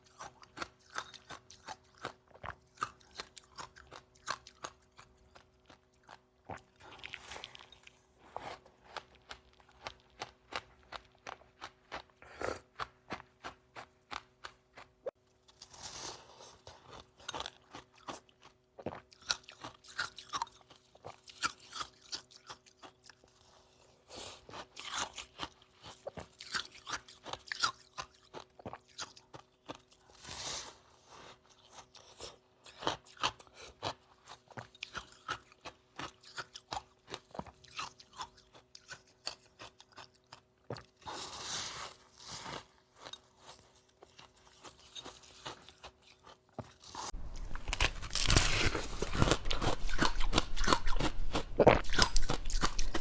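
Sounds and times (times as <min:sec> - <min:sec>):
chewing ice crunches: 0:00.0 - 0:30.6, 0:31.3 - 0:53.0.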